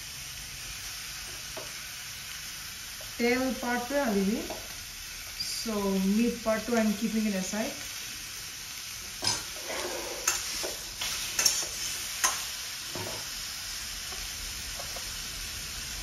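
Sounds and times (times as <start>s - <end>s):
pork sizzling in a wok: 0.0s - 16.0s.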